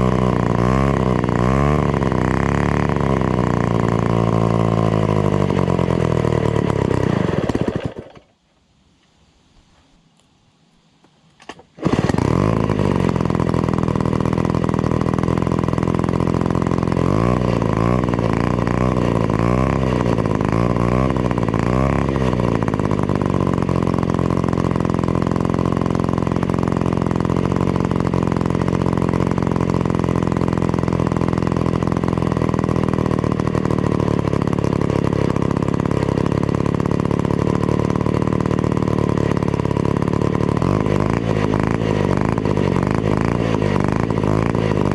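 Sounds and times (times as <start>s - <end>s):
chainsaw engine revving: 0.0s - 8.3s, 11.4s - 44.9s.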